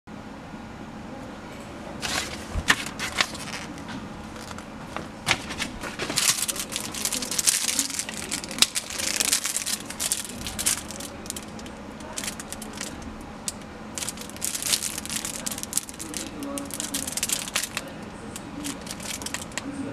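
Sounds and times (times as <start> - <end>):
paper and plastic bag crinkling: 2.0 - 19.7.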